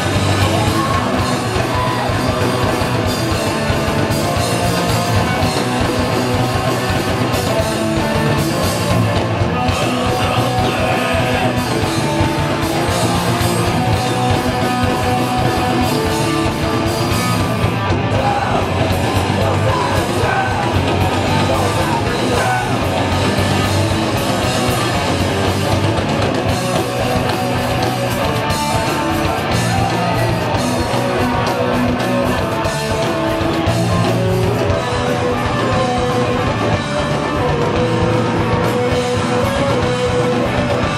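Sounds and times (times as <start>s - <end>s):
bass guitar: 0.0s - 40.9s
drums: 0.0s - 40.9s
electric guitars: 0.0s - 40.9s.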